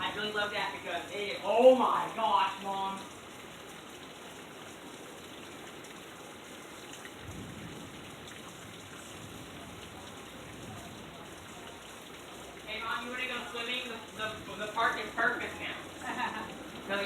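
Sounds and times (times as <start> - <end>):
steady rain hissing: 0.0 - 17.0.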